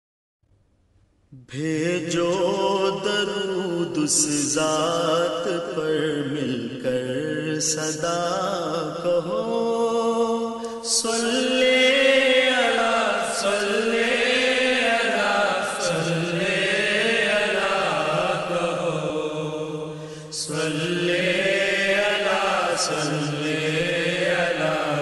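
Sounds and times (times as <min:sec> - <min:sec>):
person chanting devotional song: 0:01.3 - 0:25.0.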